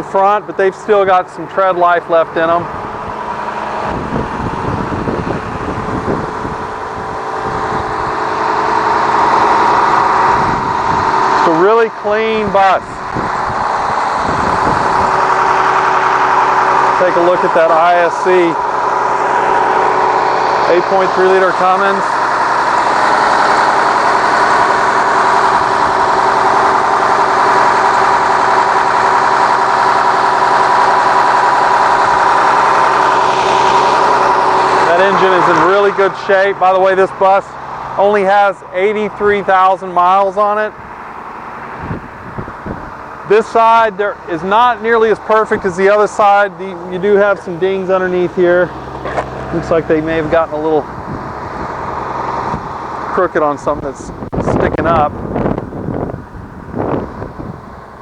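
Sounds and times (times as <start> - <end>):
bus diesel engine idling: 0.0 - 58.0
engine whine: 0.0 - 58.0.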